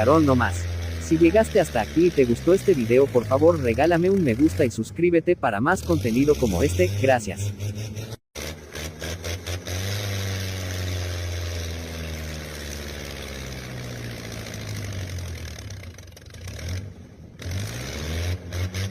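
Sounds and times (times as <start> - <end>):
heavy diesel engine labouring: 0.0 - 18.9.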